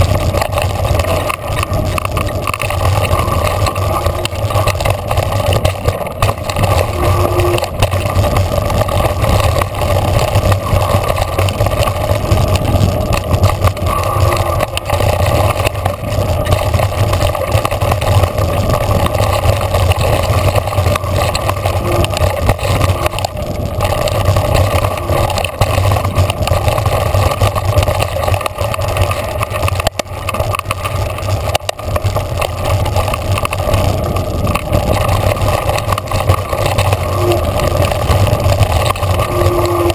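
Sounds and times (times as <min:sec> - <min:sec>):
bike rattling over bumps: 0:00.0 - 0:39.9
wind and tyre noise: 0:00.0 - 0:39.9.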